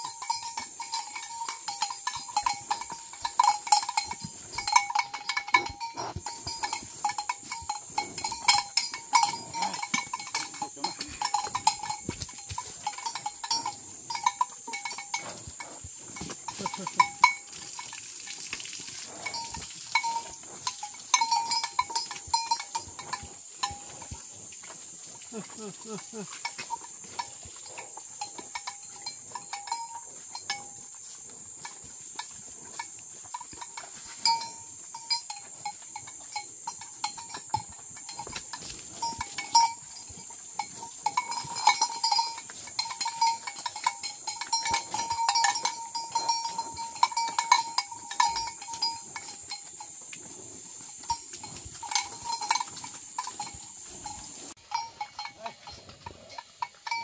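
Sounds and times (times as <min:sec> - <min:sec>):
cattle bell clanking: 0:00.0 - 0:57.0.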